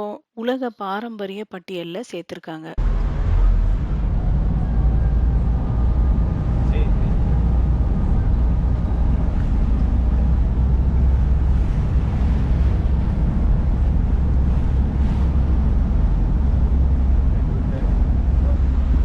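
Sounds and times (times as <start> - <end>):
wind buffeting microphone: 3.2 - 19.0.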